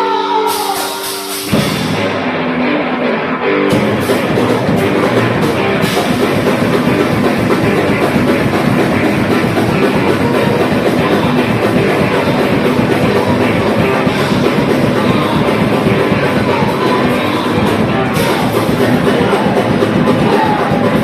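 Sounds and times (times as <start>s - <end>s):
drum kit: 0.0s - 2.8s, 3.7s - 21.0s
distorted electric guitars: 0.0s - 21.0s.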